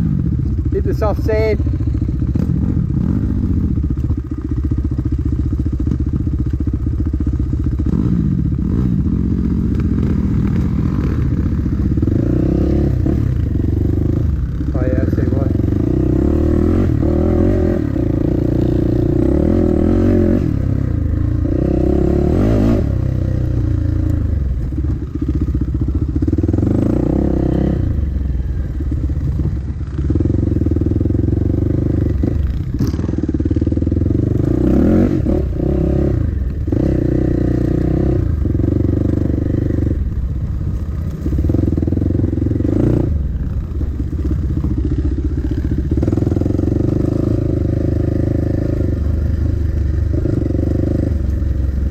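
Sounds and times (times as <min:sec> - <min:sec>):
dirt bike engine revving: 0:00.0 - 0:03.8, 0:07.4 - 0:40.2, 0:40.8 - 0:51.9.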